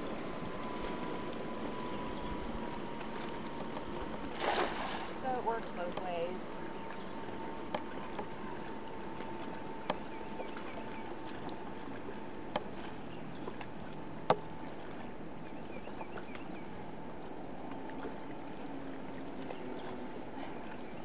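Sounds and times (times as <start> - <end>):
lake water washing: 0.0 - 21.0
wind: 0.0 - 21.0.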